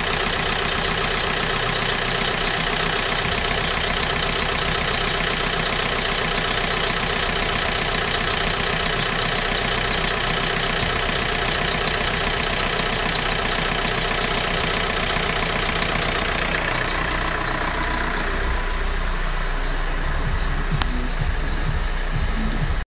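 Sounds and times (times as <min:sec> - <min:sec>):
high repeating engine squeak: 0:00.0 - 0:22.8
diesel engine idling: 0:00.0 - 0:22.9.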